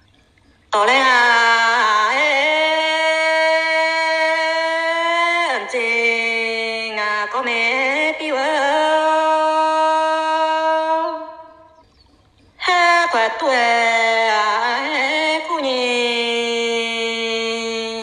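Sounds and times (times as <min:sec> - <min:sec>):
person singing folk song: 0:00.8 - 0:11.6, 0:12.6 - 0:18.0.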